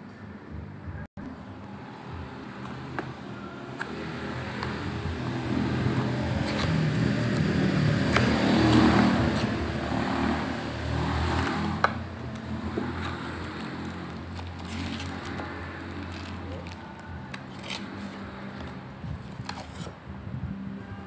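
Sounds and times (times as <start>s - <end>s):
passing motor vehicle rumble: 0.4s - 20.9s.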